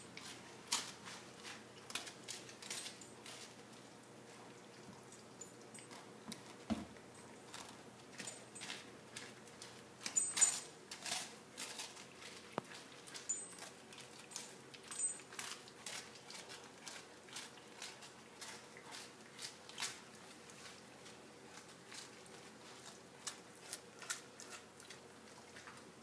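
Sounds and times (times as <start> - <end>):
dog nibbling toast: 0.1 - 25.9.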